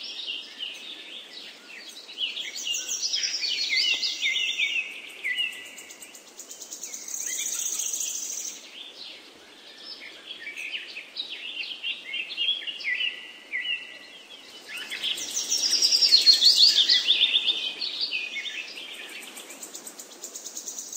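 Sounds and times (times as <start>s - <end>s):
faint steady hiss: 0.0s - 20.9s
songbirds chirping and trilling: 0.0s - 20.9s.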